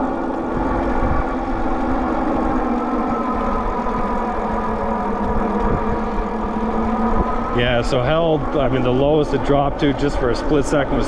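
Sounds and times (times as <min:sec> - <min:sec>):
electric motor whining: 0:00.0 - 0:11.0
wind and tyre rumble: 0:00.0 - 0:11.0.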